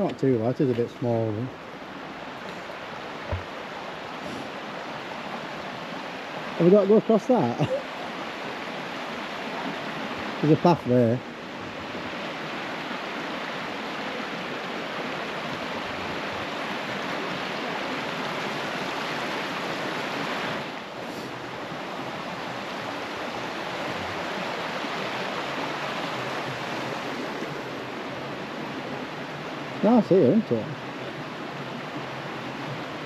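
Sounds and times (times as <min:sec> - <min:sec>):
rushing river water: 0:00.0 - 0:33.0.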